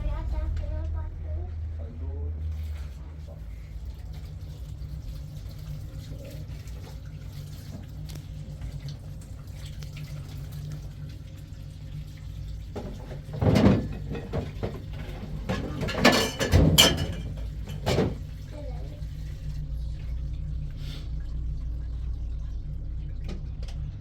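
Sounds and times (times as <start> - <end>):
steady low hum: 0.0 - 24.0
tap water splashing into sink: 3.6 - 18.6, 19.6 - 23.9.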